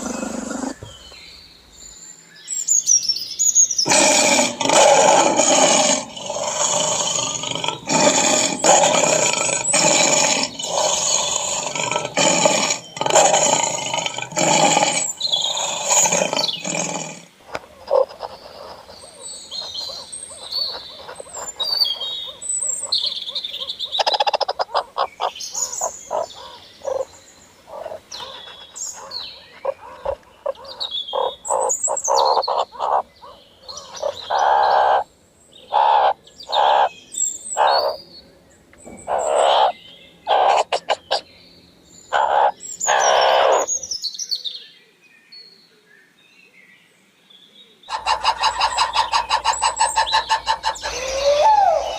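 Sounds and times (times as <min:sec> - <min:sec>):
loud rapidly pulsing bird calls: 0:00.0 - 0:01.0, 0:03.8 - 0:38.2, 0:38.9 - 0:43.8, 0:47.9 - 0:51.9
birds chirping: 0:00.0 - 0:51.9.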